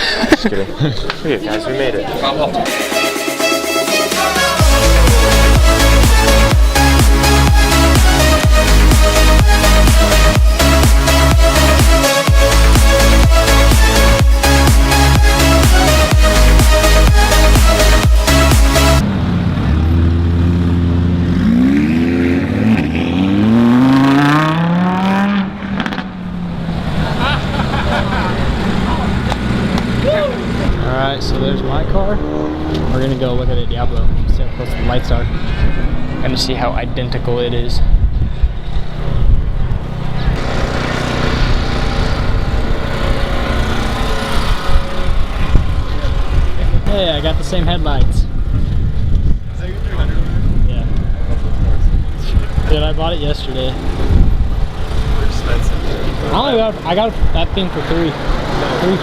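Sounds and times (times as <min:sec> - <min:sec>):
car engine accelerating: 0:04.2 - 0:59.0.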